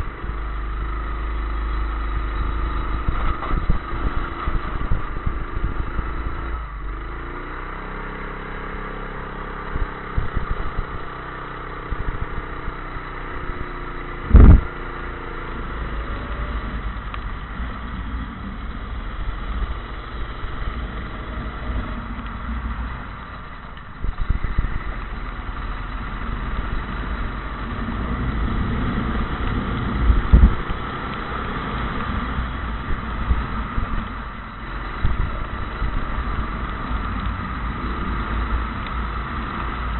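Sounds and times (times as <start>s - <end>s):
kart engine running: 0.0s - 39.9s
steady background noise: 0.0s - 39.9s.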